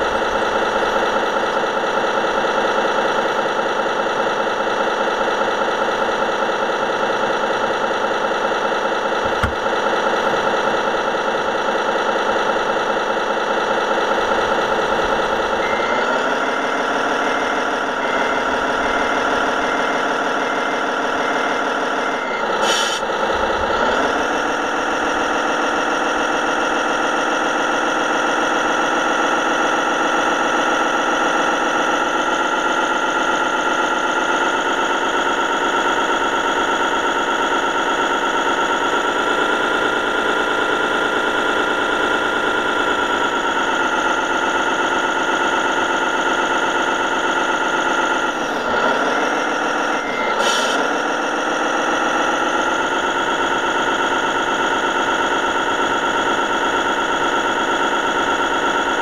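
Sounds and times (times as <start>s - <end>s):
model truck motor humming: 0.0s - 59.0s.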